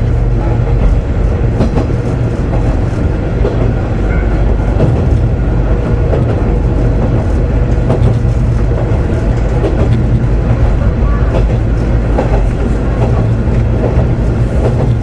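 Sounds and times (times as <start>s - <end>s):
train engine and wheels drone: 0.0s - 15.0s.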